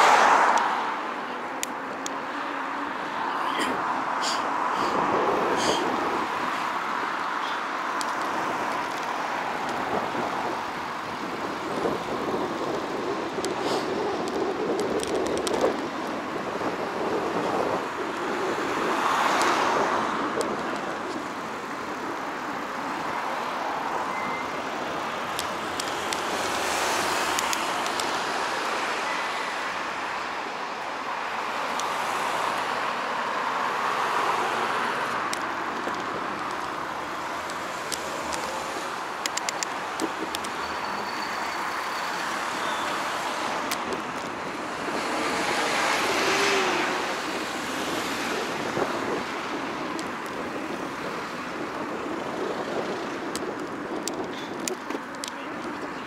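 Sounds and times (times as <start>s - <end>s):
cars passing: 0.0s - 56.0s
traffic hum: 0.0s - 56.0s.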